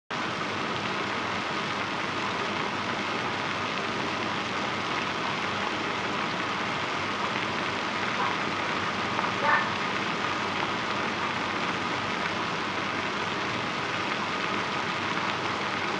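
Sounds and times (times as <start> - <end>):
water boiling and bubbling: 0.1 - 15.9.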